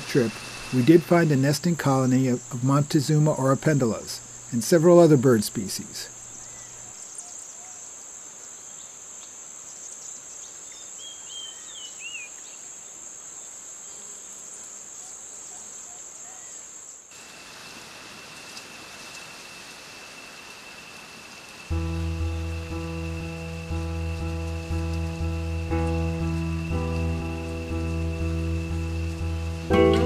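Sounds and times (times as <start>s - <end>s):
insects droning: 0.0s - 30.0s
lower-pitched insect tone: 0.0s - 30.0s.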